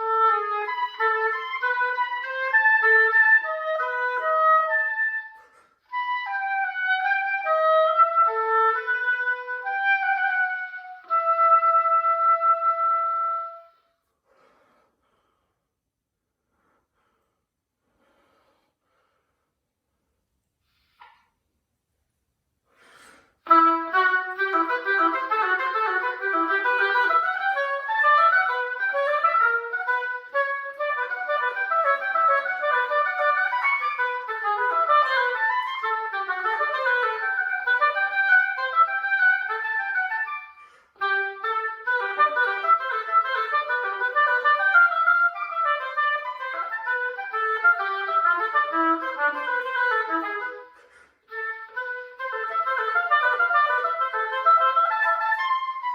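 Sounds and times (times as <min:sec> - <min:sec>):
solo oboe playing: 0:00.0 - 0:14.1, 0:23.4 - 0:55.9.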